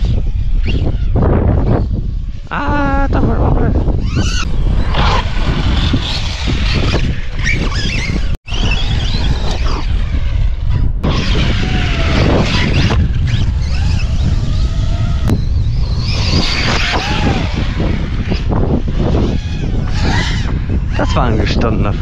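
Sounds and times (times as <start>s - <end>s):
electric motor whining: 0.0s - 22.0s
steady low rumble: 0.0s - 22.0s.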